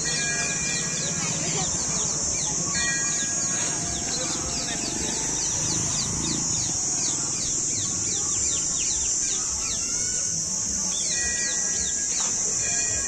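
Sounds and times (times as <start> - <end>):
birds chirping falling notes: 0.0 - 13.0
steady high-pitched buzz: 0.0 - 13.0.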